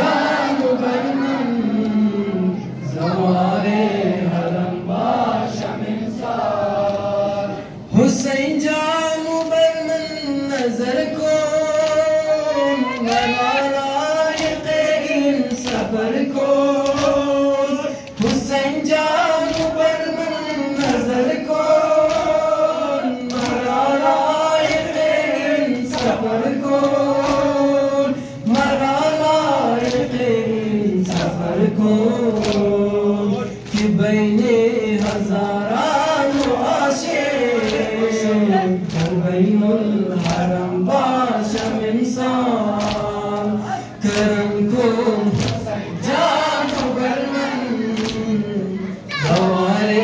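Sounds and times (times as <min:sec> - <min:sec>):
man chanting through a microphone: 0:00.0 - 0:50.0.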